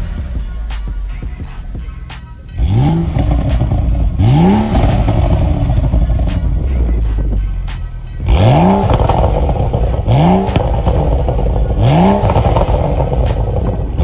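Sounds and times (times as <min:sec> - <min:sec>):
car engine revving: 0:00.0 - 0:14.0
exhaust crackles: 0:00.0 - 0:14.0.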